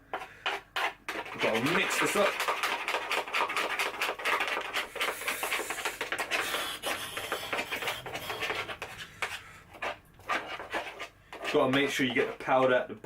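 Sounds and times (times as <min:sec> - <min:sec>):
stirring and scraping in container: 0:00.0 - 0:13.0.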